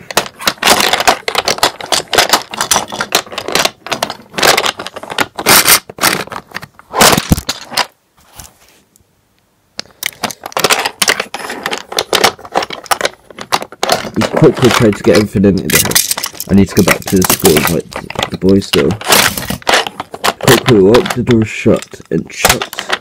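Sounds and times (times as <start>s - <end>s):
toy trains clattering and clicking: 0.0s - 6.3s, 10.0s - 23.0s.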